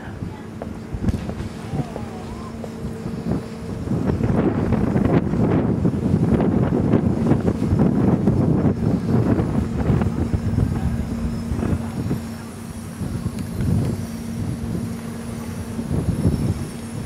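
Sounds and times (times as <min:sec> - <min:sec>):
steady low hum: 0:00.0 - 0:17.0
wind buffeting microphone: 0:00.0 - 0:17.0.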